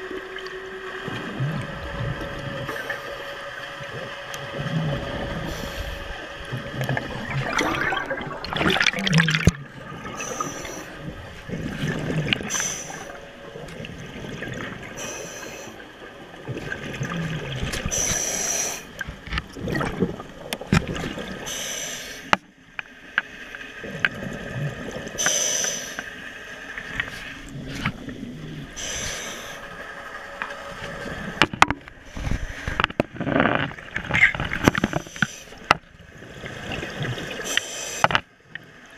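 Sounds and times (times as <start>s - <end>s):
faint steady hum: 0.0s - 38.9s
underwater bubbling and rushing water: 0.0s - 38.9s.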